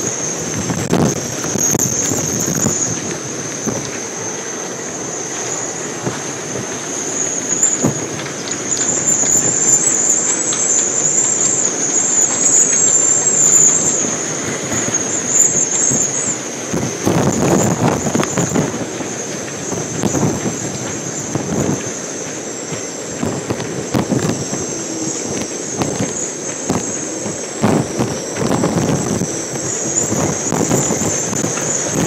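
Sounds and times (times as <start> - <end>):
high wind whistle: 0.0 - 32.0
strong wind blowing: 0.0 - 32.0.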